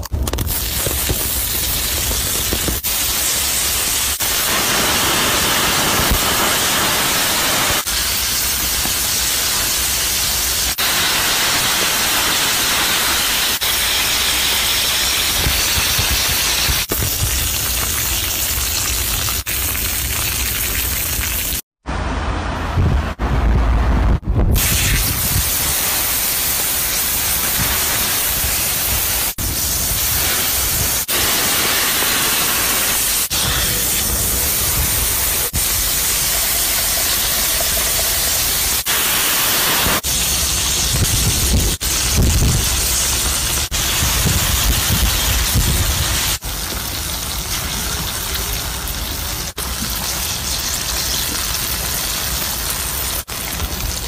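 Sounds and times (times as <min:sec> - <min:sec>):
fish sizzling in fat: 0:00.5 - 0:21.6, 0:24.6 - 0:54.0.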